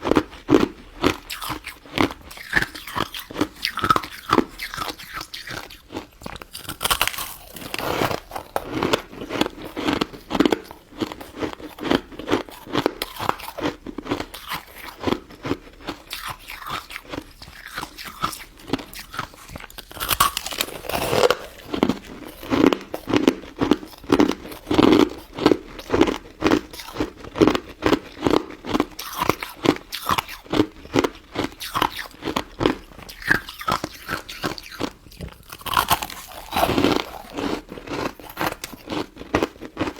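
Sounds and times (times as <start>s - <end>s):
crunching icy dessert: 0.0s - 39.9s.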